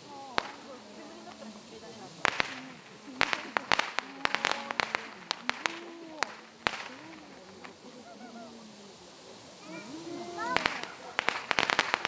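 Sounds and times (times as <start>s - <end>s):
faint voices of onlookers: 0.0s - 12.0s
fireworks cracking and popping: 0.0s - 12.0s.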